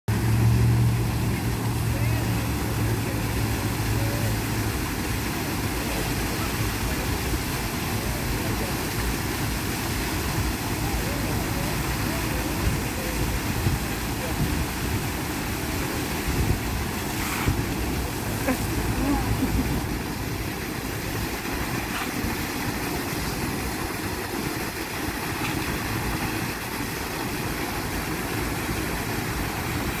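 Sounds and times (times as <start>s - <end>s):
fountain water splashing: 0.1s - 30.0s.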